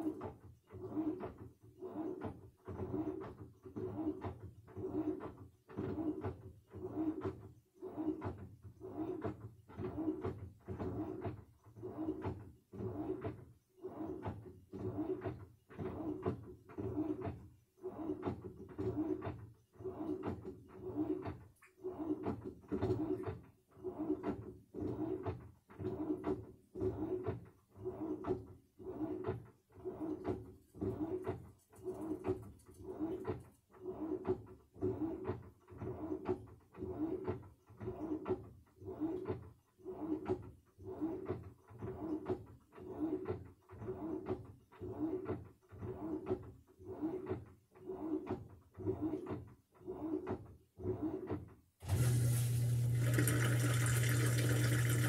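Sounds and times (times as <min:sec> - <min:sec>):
washing machine churning: 0:00.0 - 0:49.2, 0:51.8 - 0:55.0.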